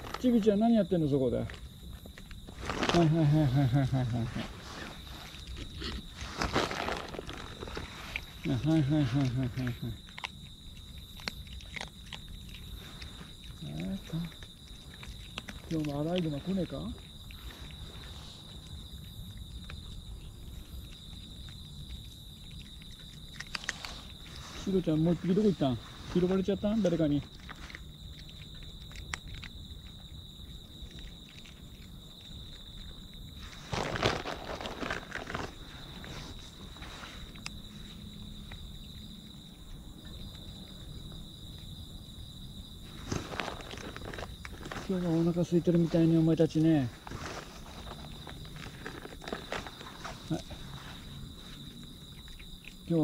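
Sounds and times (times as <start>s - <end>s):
cats crunching dry food: 0.0s - 42.2s, 42.8s - 53.0s
crickets trilling: 0.0s - 53.0s.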